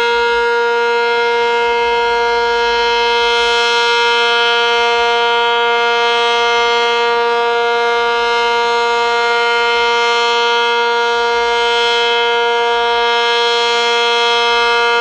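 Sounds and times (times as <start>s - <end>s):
tornado siren steady tone: 0.0s - 15.0s.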